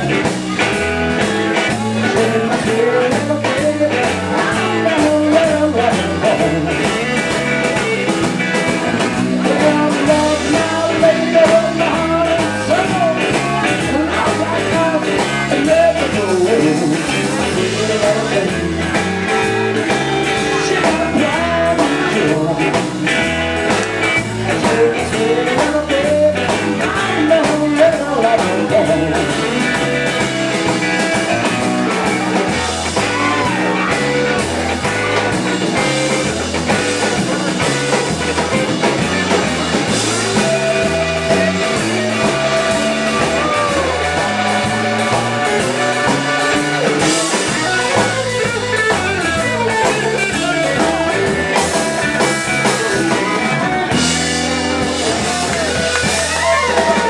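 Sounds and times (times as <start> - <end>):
blues-rock band playing: 0.0 - 57.0
electric guitar lead with bent notes: 0.0 - 57.0.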